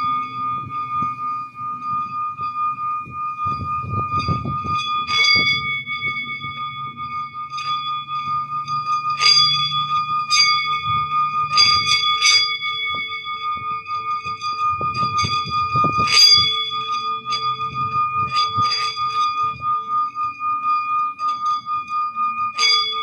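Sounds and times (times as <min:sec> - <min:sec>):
bells ringing: 0:00.0 - 0:23.0.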